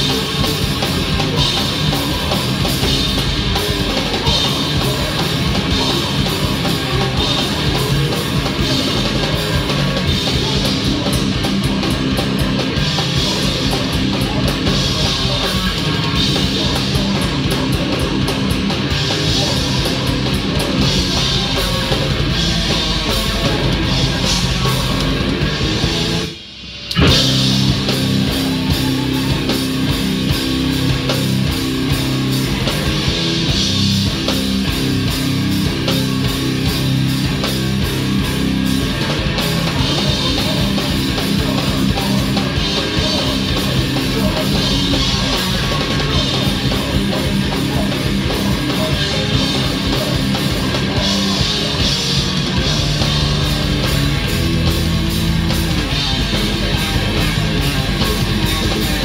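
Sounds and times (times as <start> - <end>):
heavy band playing loud: 0.0 - 59.0.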